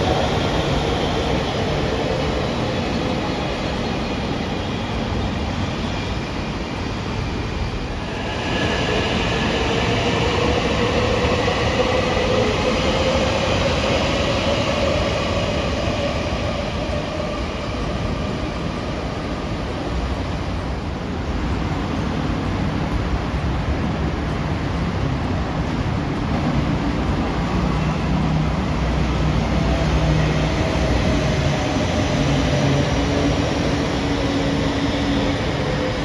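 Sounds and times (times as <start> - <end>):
train running on rails: 0.0 - 36.0
train whine: 0.0 - 36.0.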